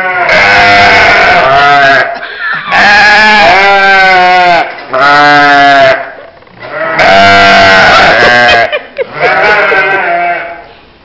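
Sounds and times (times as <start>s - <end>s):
sheep bleating: 0.0s - 10.7s.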